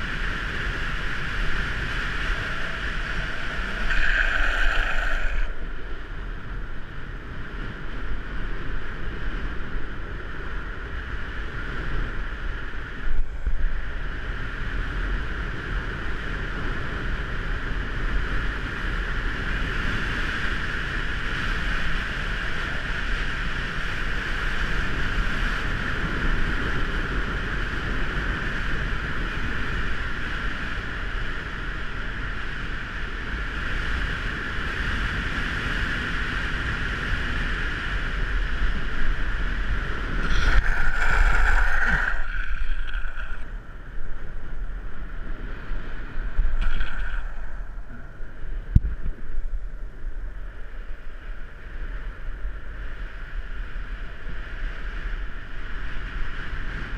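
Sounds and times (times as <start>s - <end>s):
skateboard wheels on asphalt: 0.0s - 56.9s
wind buffeting camera: 0.0s - 56.9s.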